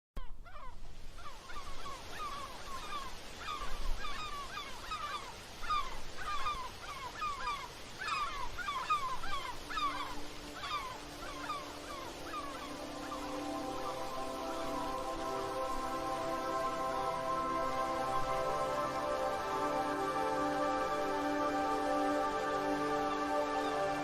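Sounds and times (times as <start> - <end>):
flock of birds calling: 0.2 - 24.0
faint rushing background: 0.4 - 24.0.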